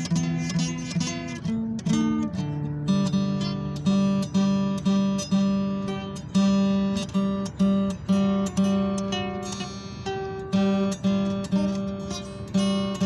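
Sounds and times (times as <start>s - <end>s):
acoustic guitar strummed and picked: 0.0s - 13.0s.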